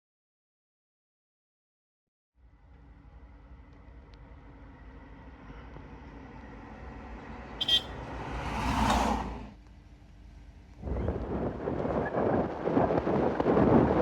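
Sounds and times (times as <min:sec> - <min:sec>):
vehicle engine humming: 0:02.4 - 0:14.0.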